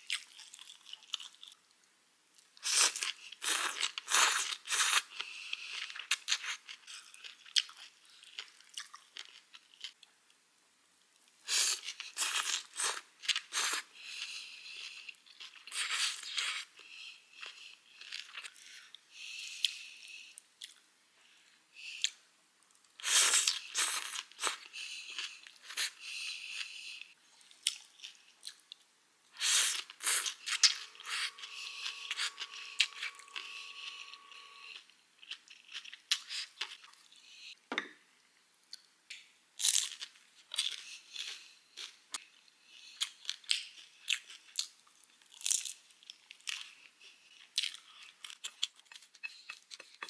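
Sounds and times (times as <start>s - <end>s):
person chewing crunchy food: 0.0s - 1.6s, 2.6s - 10.0s, 11.3s - 20.8s, 22.8s - 37.5s, 39.6s - 50.0s.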